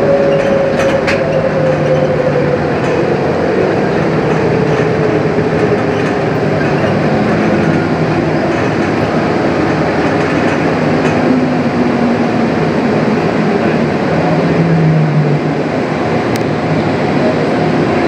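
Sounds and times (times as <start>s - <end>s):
people-mover car rumbling: 0.0s - 18.0s.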